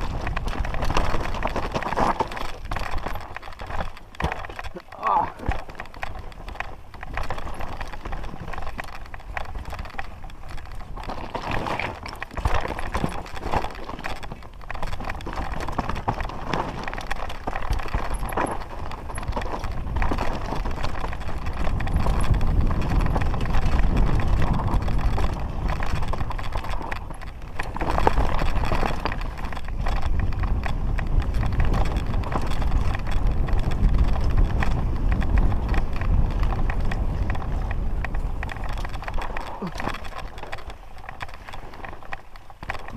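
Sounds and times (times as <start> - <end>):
bike rattling: 0.0 - 42.9
tyres crunching over rocks: 0.0 - 42.9
wind buffeting microphone: 0.0 - 42.9.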